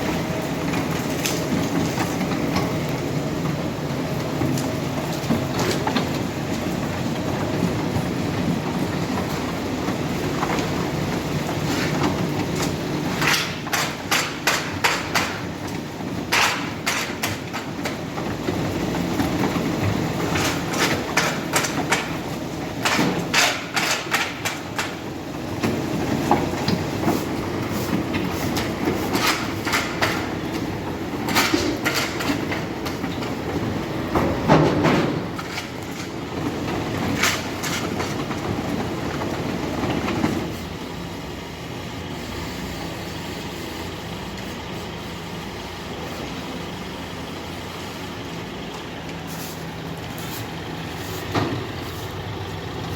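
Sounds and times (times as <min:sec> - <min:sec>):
paving machinery running: 0:00.0 - 0:52.9.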